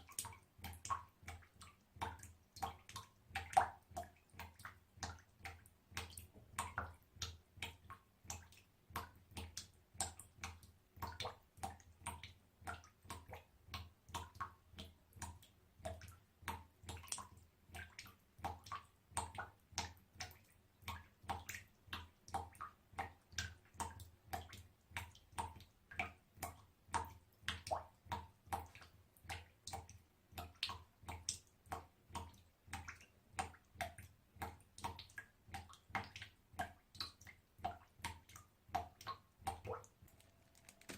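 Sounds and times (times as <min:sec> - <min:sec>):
water drops dripping: 0:00.0 - 0:40.9.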